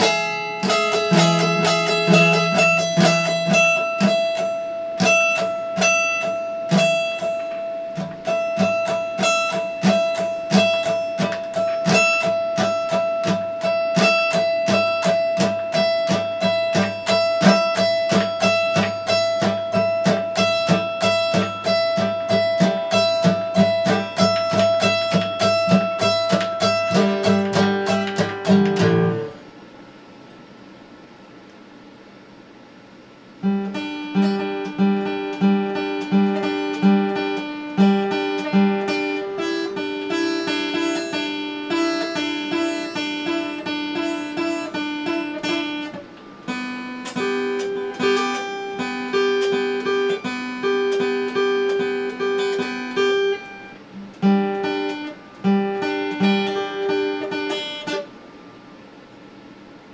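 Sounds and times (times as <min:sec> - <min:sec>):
acoustic guitar plucking: 0:00.0 - 0:29.8, 0:33.3 - 0:58.9.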